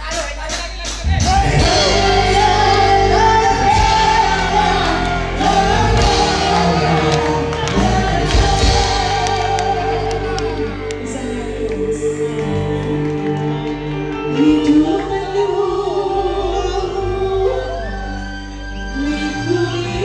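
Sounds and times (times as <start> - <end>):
live band playing: 0.0 - 20.0
woman singing into a microphone: 1.4 - 18.2, 18.8 - 20.0.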